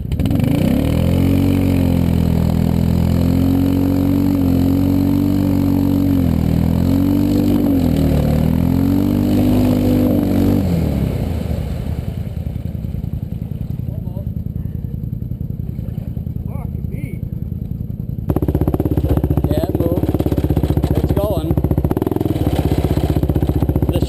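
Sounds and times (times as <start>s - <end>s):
quad bike engine revving: 0.0s - 24.0s.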